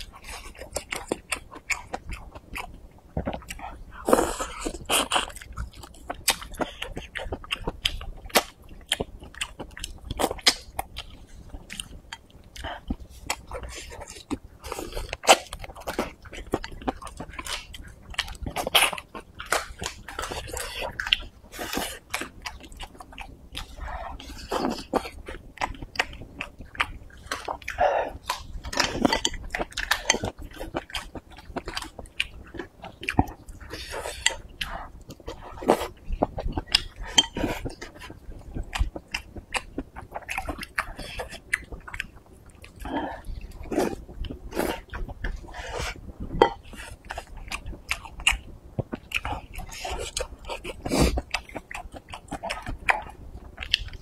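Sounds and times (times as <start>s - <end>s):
person chewing wetly: 0.0s - 54.0s.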